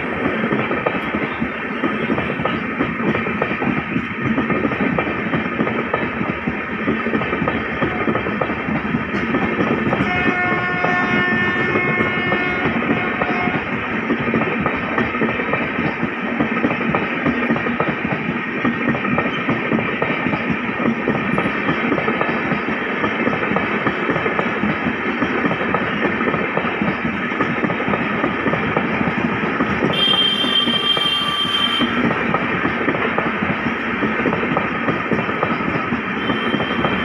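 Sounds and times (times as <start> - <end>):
train wheels rushing on rails: 0.0 - 37.0.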